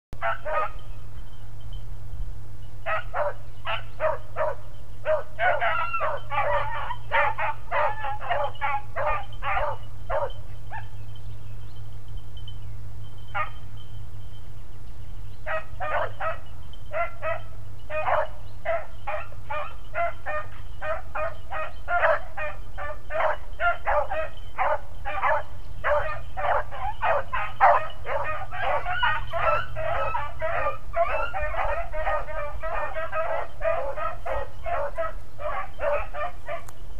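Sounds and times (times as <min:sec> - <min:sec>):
high yipping barks of dogs: 0:00.2 - 0:00.8, 0:02.8 - 0:11.0, 0:13.3 - 0:13.6, 0:15.4 - 0:36.8.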